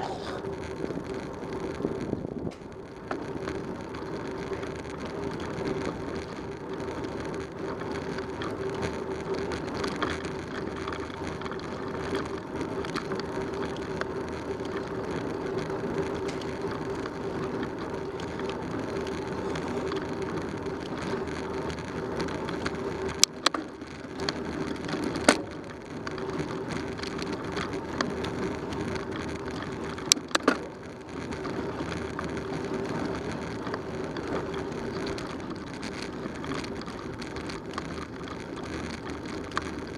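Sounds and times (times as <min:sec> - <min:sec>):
bicycle rolling on asphalt: 0:00.0 - 0:39.9.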